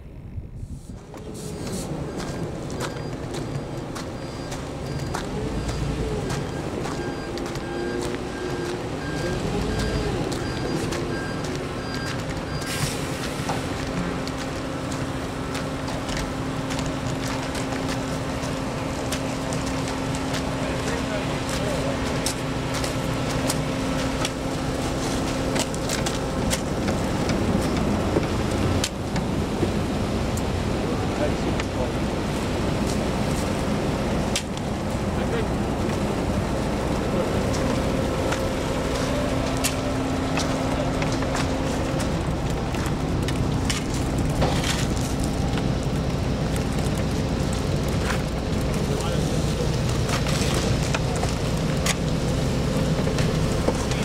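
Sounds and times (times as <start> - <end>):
vehicle engine humming: 0.0 - 54.0
wet concrete pouring down chute: 8.5 - 28.9, 29.5 - 54.0.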